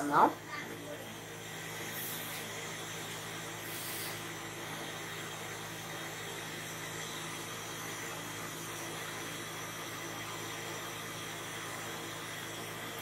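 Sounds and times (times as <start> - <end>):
pot of soup hissing: 1.2 - 13.0.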